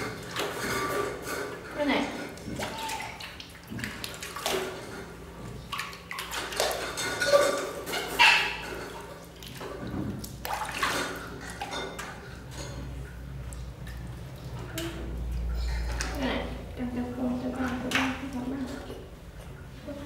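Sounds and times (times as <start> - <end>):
water splashing in a basin: 0.0 - 20.0.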